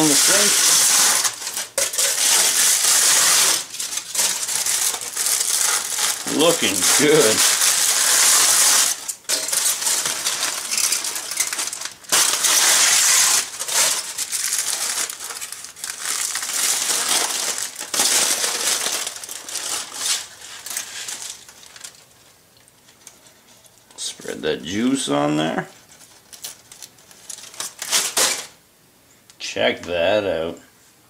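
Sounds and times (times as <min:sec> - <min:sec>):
aluminium foil crinkling: 0:00.0 - 0:24.3, 0:25.7 - 0:28.6.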